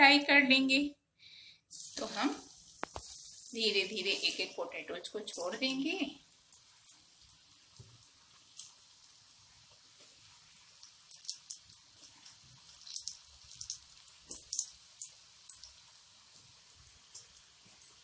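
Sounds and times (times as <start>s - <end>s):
hot oil sizzling: 1.7s - 18.0s
oil spattering crackles: 1.8s - 18.0s.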